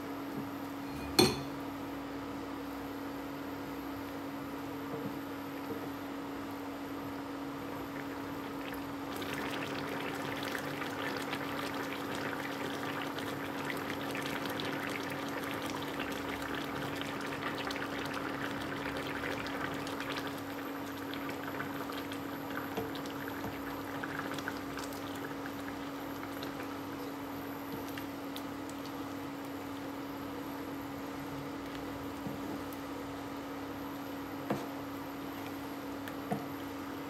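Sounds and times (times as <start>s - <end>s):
sauce simmering and bubbling: 7.2s - 37.0s.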